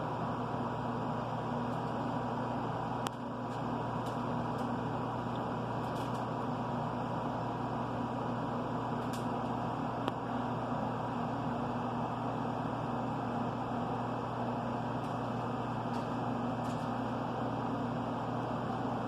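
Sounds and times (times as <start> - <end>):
machine hum with tones: 0.0 - 19.0.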